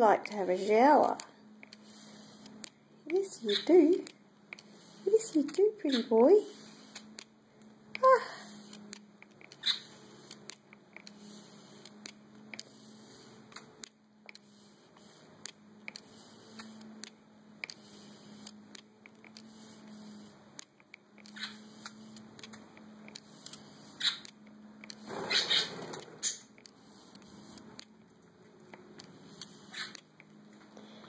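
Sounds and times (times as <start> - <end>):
low mains hum: 0.0 - 31.0.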